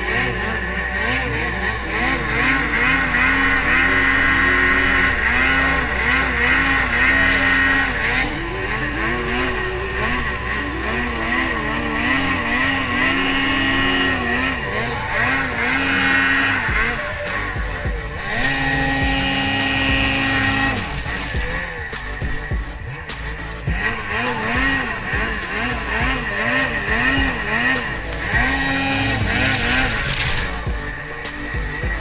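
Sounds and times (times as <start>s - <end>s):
snowmobile engine revving: 0.0s - 32.0s.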